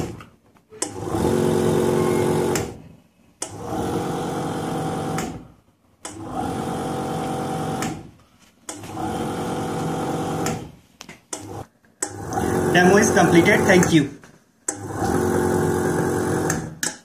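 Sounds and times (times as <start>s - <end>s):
vacuum pump humming: 0.8s - 2.8s, 3.4s - 8.1s, 8.7s - 14.0s, 14.7s - 16.8s.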